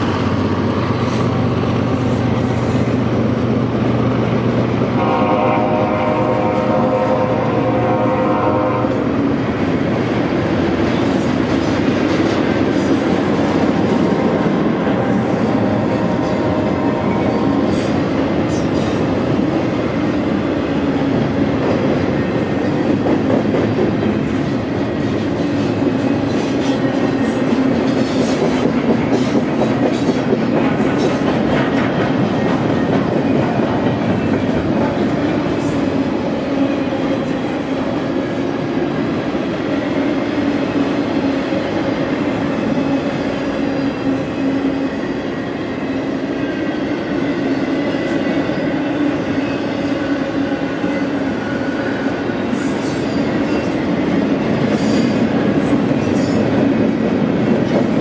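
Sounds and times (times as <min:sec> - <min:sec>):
rail clicks and clacks: 0:00.0 - 0:58.0
train wheels rumbling on track: 0:00.0 - 0:58.0.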